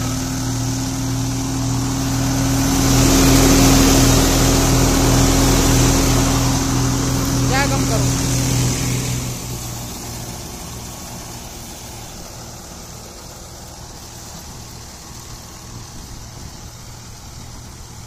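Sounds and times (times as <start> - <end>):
straw reaper working: 0.0 - 16.2
tractor engine running: 0.0 - 18.0.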